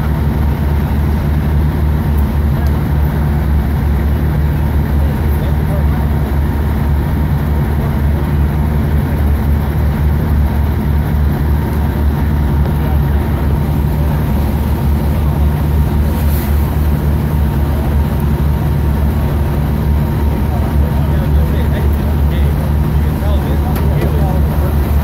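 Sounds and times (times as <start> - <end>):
diesel engine rumbling: 0.0 - 25.0.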